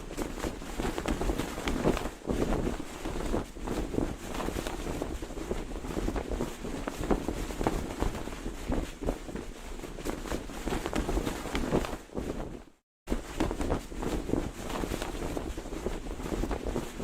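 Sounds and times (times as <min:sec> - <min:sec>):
flag flapping in the wind: 0:00.0 - 0:17.0
wind noise on microphone: 0:00.0 - 0:17.0.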